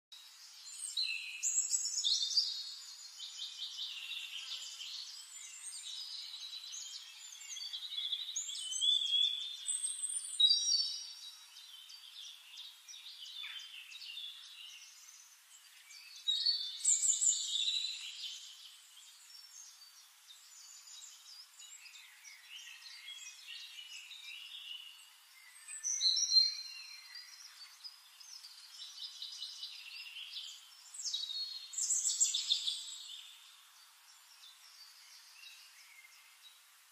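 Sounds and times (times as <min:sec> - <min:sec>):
songbirds singing: 0:00.1 - 0:36.9.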